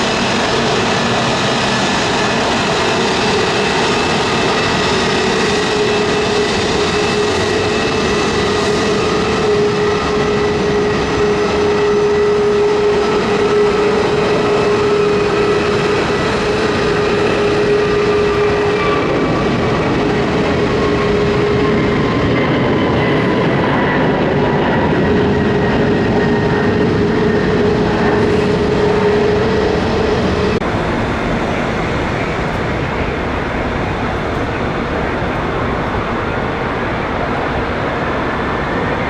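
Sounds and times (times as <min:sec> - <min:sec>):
jet engines running with whine: 0:00.0 - 0:39.0.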